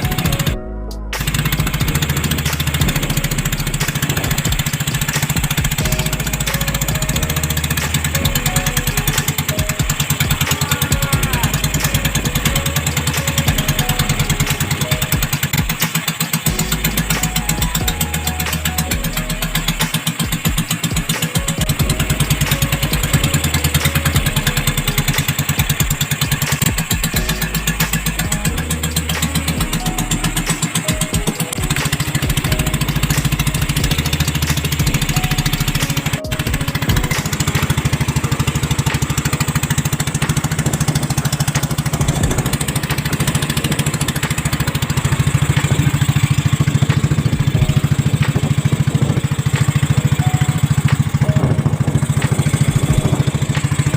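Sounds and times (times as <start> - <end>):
small boat engine puttering: 0.0 - 53.9.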